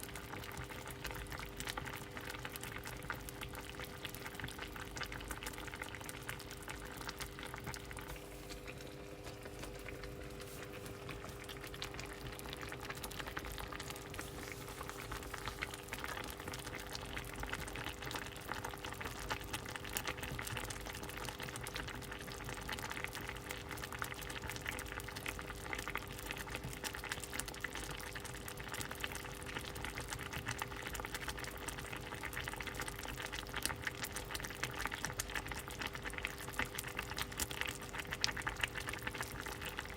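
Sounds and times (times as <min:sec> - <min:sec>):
soup bubbling and popping: 0:00.0 - 0:39.9.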